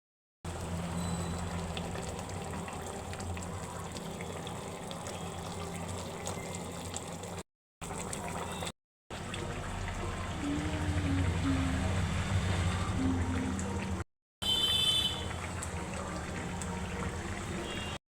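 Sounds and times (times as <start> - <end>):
water running: 0.5 - 18.0.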